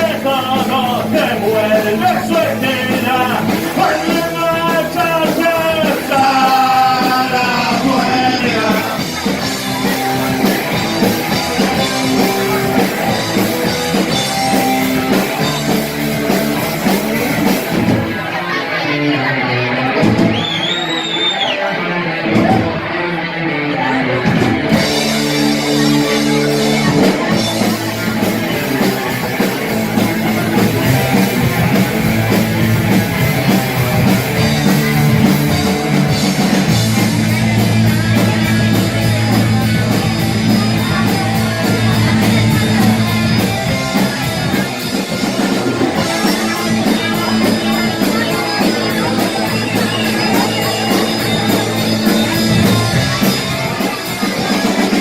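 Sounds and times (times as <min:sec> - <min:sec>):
drum kit: 0:00.0 - 0:23.2, 0:23.8 - 0:55.0
electric guitar: 0:00.0 - 0:55.0.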